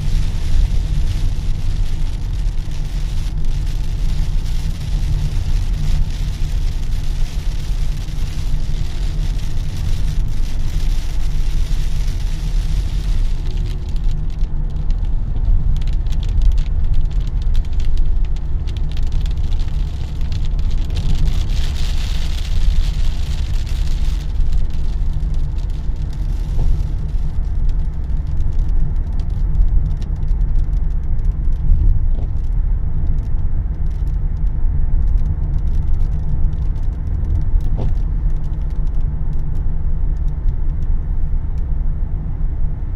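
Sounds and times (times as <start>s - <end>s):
raindrops ticking on car: 0.0s - 41.2s
rain hissing on car: 0.0s - 41.5s
car road rumble: 0.0s - 42.9s.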